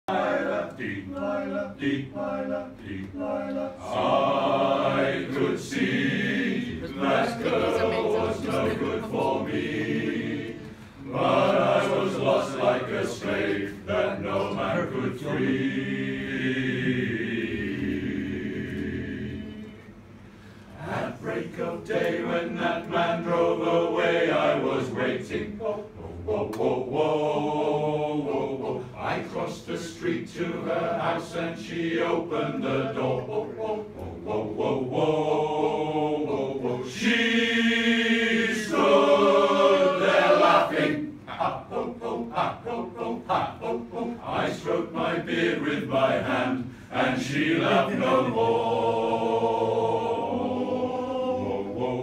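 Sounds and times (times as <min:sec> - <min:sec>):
male choir singing a cappella: 0:00.0 - 0:52.0.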